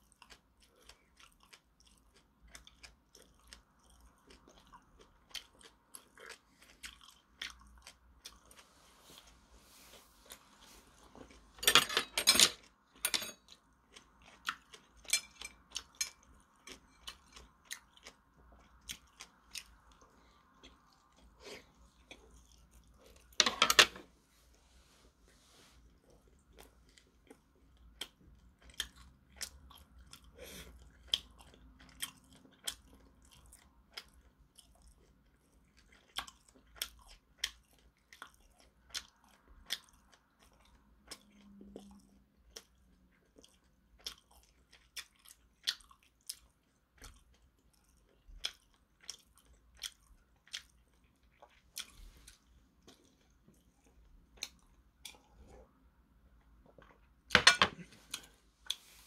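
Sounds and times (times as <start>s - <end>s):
person chewing crunchy food: 0.0s - 24.2s, 24.8s - 59.0s.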